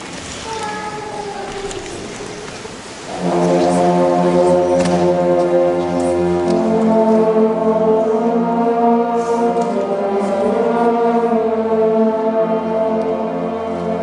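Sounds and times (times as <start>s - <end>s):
orchestra playing slow chords: 0.9s - 14.0s.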